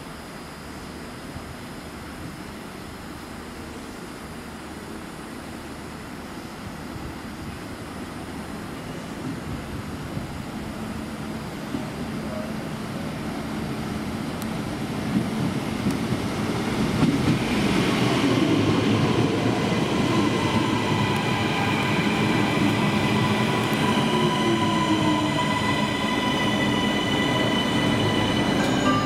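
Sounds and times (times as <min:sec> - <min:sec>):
electric train running rumble: 0:00.0 - 0:29.0.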